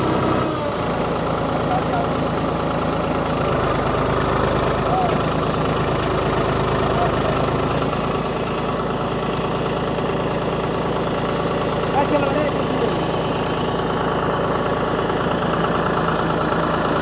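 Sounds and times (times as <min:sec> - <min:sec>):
tractor diesel engine chugging: 0:00.0 - 0:17.0.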